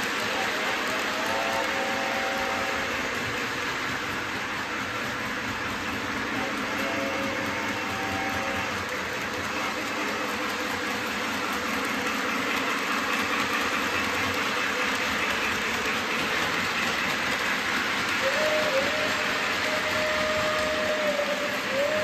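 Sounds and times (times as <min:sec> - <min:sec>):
model train motors whirring: 0:00.0 - 0:22.0
steady whistle tone: 0:00.3 - 0:13.9, 0:15.9 - 0:22.0.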